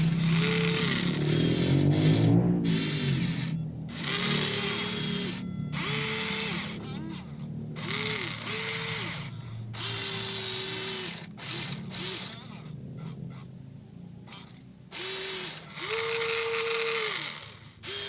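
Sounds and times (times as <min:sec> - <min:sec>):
small electric motors whirring: 0:00.0 - 0:13.5, 0:14.2 - 0:18.0.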